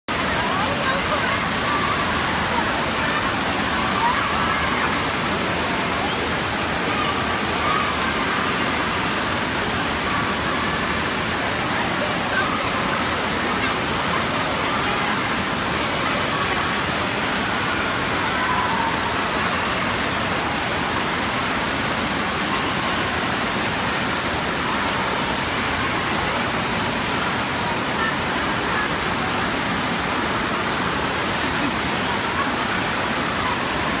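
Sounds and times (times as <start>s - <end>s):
faint children's voices: 0.1s - 34.0s
fountain jets splashing: 0.1s - 34.0s.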